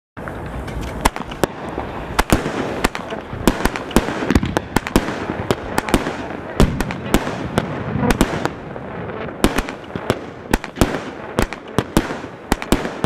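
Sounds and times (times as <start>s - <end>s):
fireworks cracking: 0.2s - 13.0s
steady hiss: 0.2s - 13.0s.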